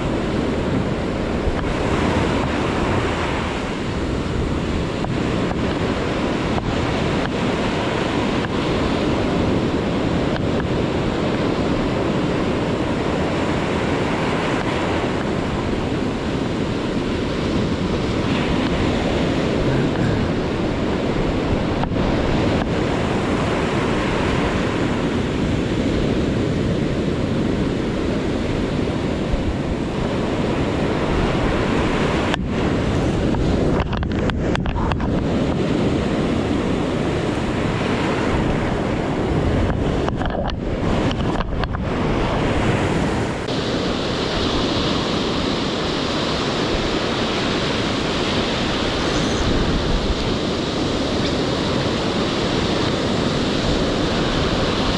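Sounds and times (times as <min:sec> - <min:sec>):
heavy surf breaking on shore: 0:00.0 - 0:54.9
wind buffeting microphone: 0:00.0 - 0:54.9.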